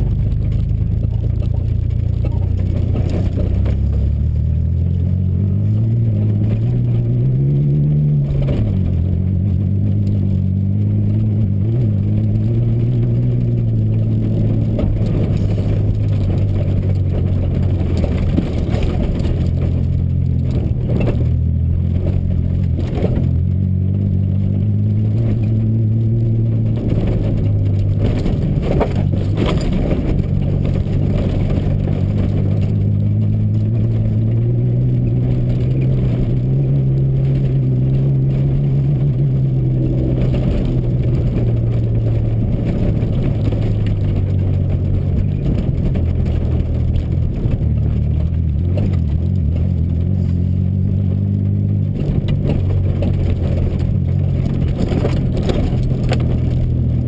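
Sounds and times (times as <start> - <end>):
knocks and rattles over bumps: 0.0 - 57.0
truck engine pulling hard: 0.0 - 57.0.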